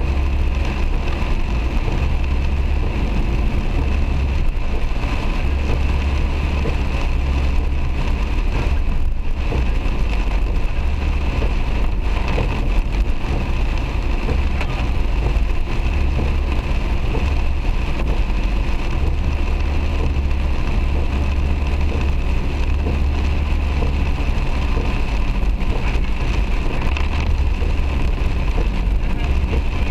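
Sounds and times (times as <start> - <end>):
heavy rain pelting a car: 0.0 - 29.9
road and engine rumble: 0.0 - 29.9.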